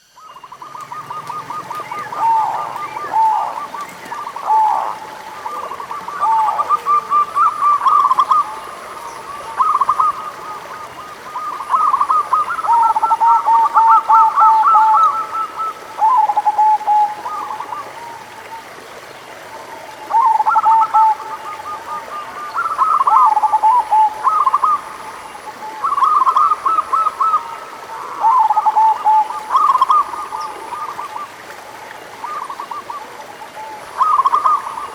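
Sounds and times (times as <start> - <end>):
doves cooing: 0.2 - 18.8, 19.7 - 34.9.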